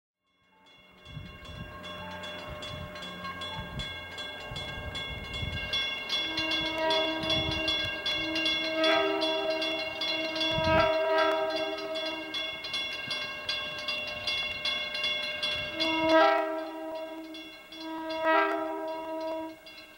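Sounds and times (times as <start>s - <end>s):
crossing bell ringing: 0.2s - 19.9s
train horn blasts: 1.0s - 13.8s, 15.4s - 19.8s.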